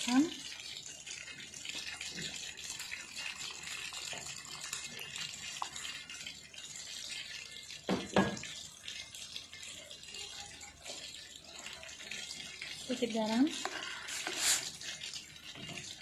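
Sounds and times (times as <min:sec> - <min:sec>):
water pouring into pot: 0:00.0 - 0:16.0.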